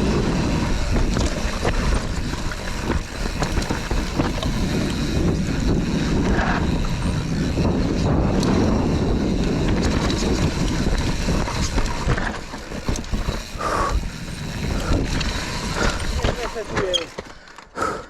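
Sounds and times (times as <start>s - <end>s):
wind rushing over microphone: 0.0s - 17.1s
mountain bike rattling on dirt trail: 0.0s - 18.0s.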